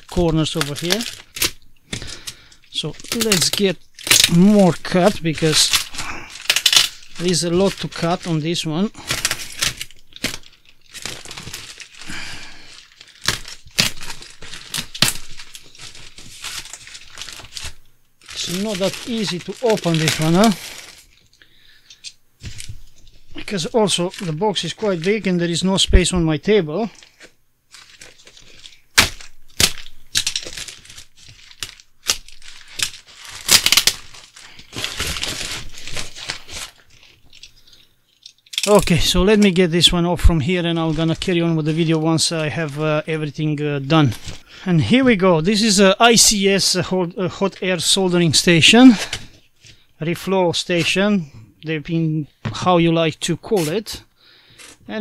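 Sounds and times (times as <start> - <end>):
plastic crinkling and tearing: 0.0 - 26.2, 26.8 - 44.4, 47.4 - 49.8.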